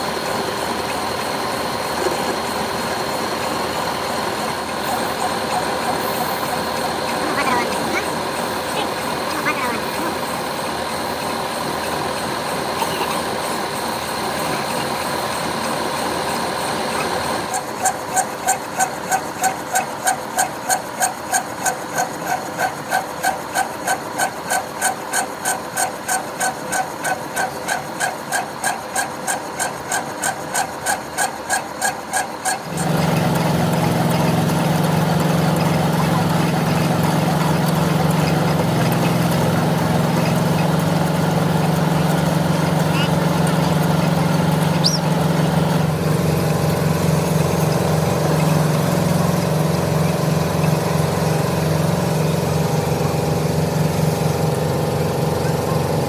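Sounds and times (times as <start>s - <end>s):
machine hum: 0.0s - 25.1s, 32.5s - 56.0s.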